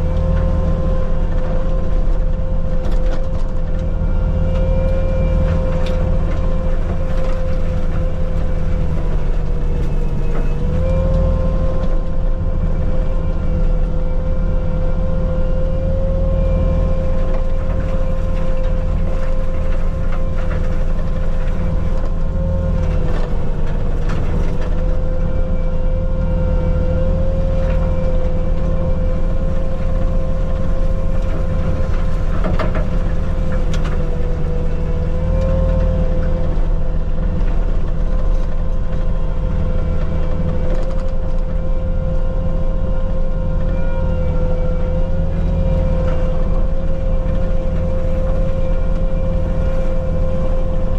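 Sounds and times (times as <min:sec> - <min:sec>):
forestry mulcher droning: 0:00.0 - 0:50.9.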